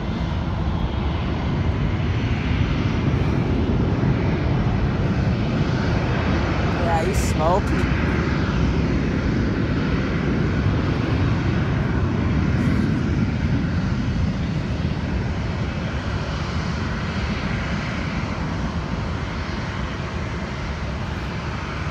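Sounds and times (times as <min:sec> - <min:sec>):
distant jet engines roaring: 0:00.0 - 0:21.9.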